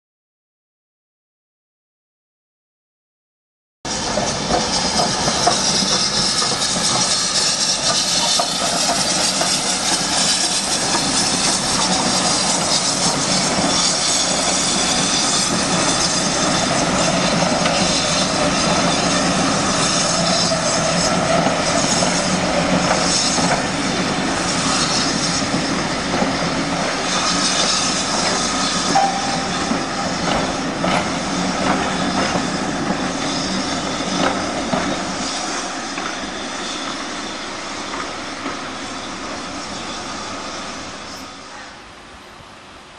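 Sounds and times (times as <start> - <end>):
train wheels rumbling on rails: 3.9 - 41.7
faint high wheel squeal: 3.9 - 41.8.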